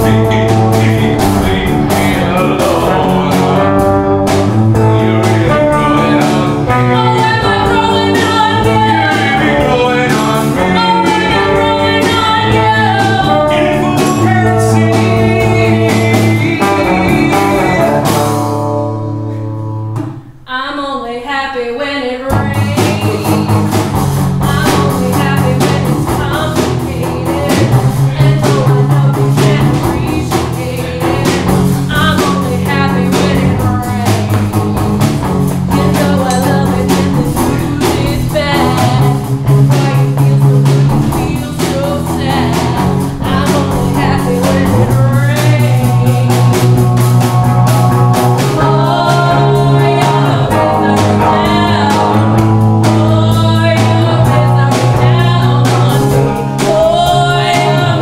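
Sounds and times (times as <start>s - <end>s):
person singing with vibrato: 0.0s - 18.5s, 20.4s - 23.7s, 24.4s - 35.0s, 35.6s - 58.0s
live rock band: 0.0s - 20.4s, 22.3s - 58.0s.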